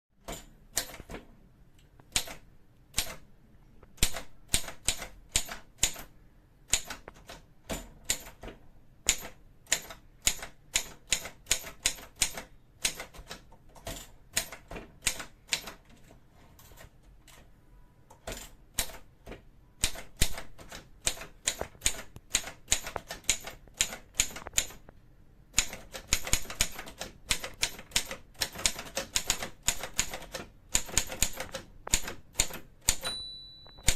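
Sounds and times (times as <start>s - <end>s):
manual typewriter key strikes: 0.2s - 1.2s, 2.1s - 3.2s, 4.0s - 6.1s, 6.7s - 15.9s, 18.1s - 24.8s, 25.5s - 33.9s.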